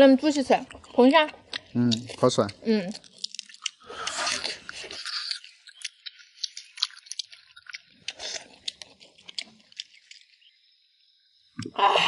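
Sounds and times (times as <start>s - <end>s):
person chewing crunchy food: 0.6s - 10.6s.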